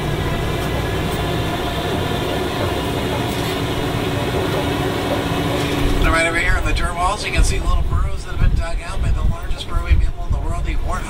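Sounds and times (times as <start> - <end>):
rolling road noise: 0.0 - 11.0
truck engine rumble: 0.0 - 11.0.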